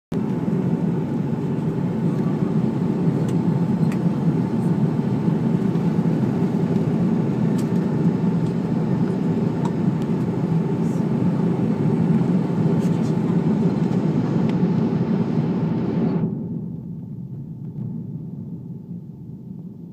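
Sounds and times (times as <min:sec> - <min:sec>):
airliner cabin engine drone: 0:00.1 - 0:19.9.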